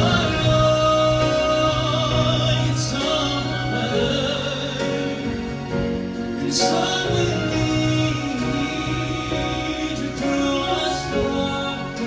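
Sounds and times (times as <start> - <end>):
grand piano: 0.0 - 12.0
man singing ballad: 0.0 - 12.0
string quartet: 0.0 - 12.0.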